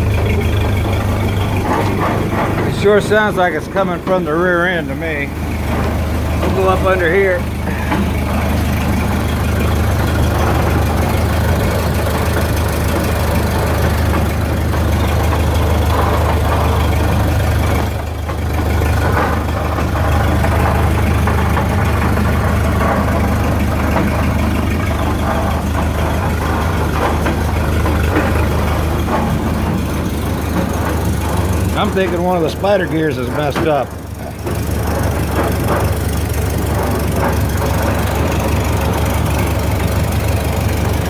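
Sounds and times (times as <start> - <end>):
running gear noise: 0.0 - 41.0
truck engine running: 0.0 - 41.0.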